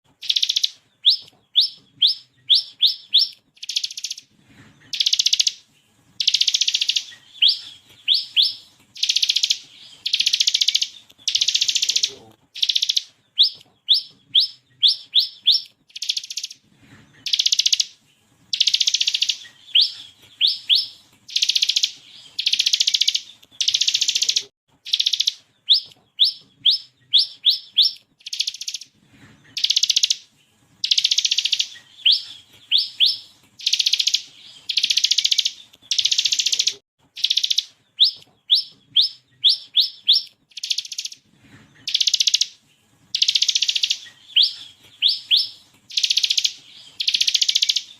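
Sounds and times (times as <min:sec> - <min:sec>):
bird singing buzzy rattles: 0:00.1 - 0:47.9.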